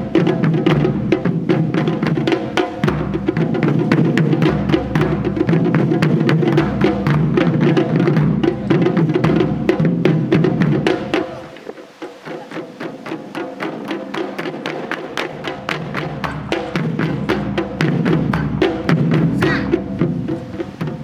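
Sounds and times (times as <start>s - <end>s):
taiko drums playing fast rhythm: 0.0s - 21.0s.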